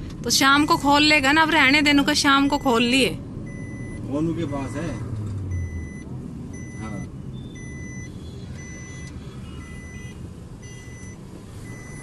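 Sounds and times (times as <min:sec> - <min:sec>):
engine rumble: 0:00.0 - 0:12.0
road noise: 0:00.0 - 0:12.0
vehicle warning beeper: 0:02.2 - 0:12.0.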